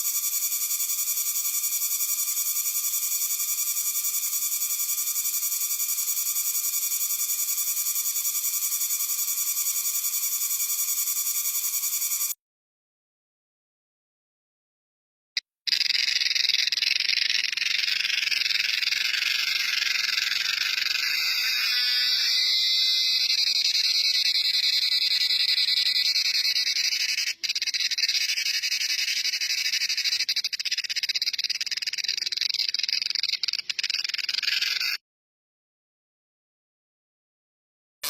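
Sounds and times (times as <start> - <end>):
cicada buzzing: 0.0 - 12.4, 15.7 - 35.0.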